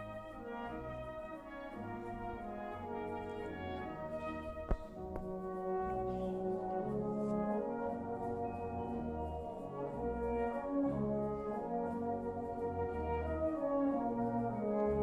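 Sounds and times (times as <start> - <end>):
slow brass music: 0.0 - 15.0.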